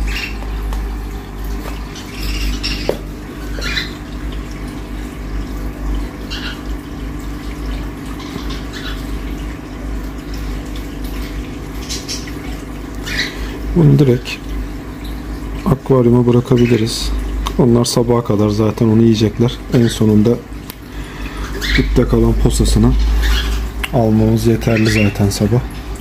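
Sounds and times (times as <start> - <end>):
aquarium pump hum: 0.0 - 26.0
water bubbling: 0.0 - 26.0.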